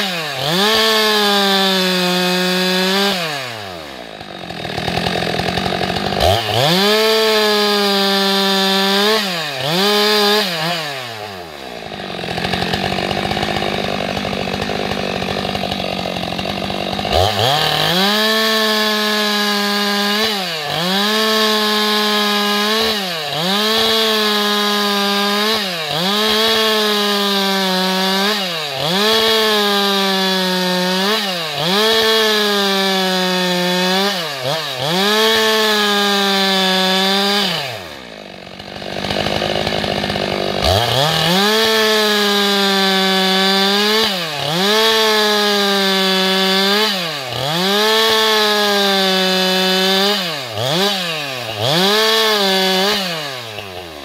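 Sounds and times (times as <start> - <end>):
chainsaw ripping a log: 0.0 - 54.0.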